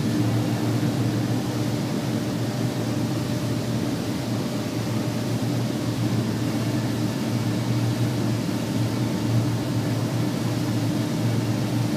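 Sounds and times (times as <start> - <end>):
rolling mill machine hum: 0.0 - 11.9.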